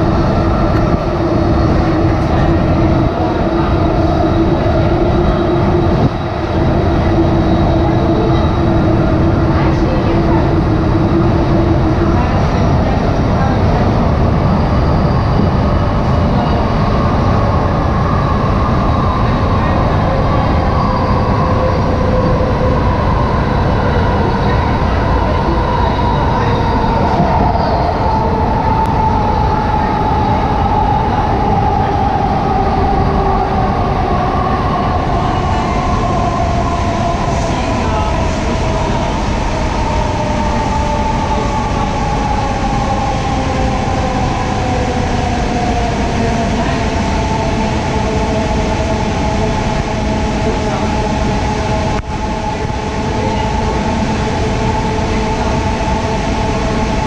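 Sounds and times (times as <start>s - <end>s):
train car rumbling over track: 0.0s - 57.0s.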